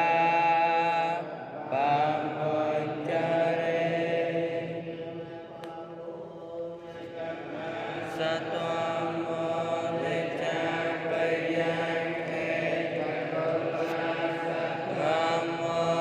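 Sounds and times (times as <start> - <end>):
chant-like vocal droning: 0.0 - 16.0.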